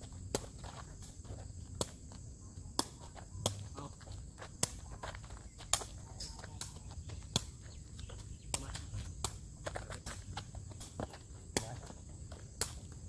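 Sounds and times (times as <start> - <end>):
foot kicking woven ball: 0.0 - 13.0.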